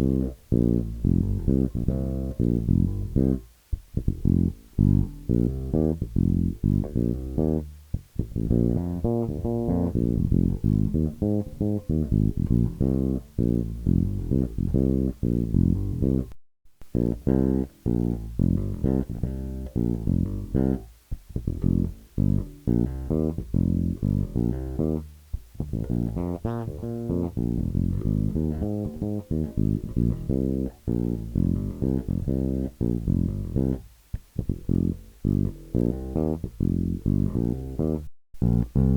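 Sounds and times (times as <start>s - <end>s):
electric bass plucked runs: 0.0s - 38.9s.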